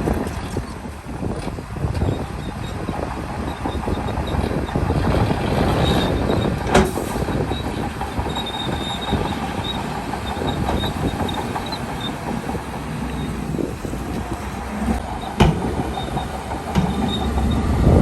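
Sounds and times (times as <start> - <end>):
crawler tracks clanking and squealing: 0.0 - 18.0
diesel engine under load: 0.0 - 18.0.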